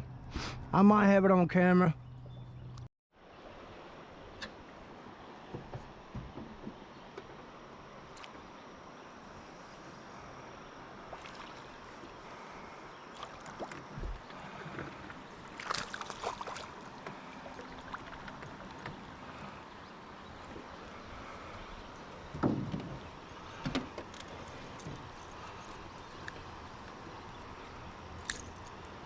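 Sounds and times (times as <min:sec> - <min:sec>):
river water flowing: 0:03.2 - 0:29.0.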